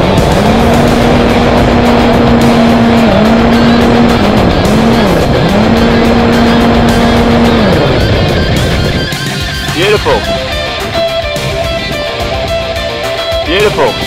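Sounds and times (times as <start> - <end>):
loud rushing noise: 0.0 - 14.0.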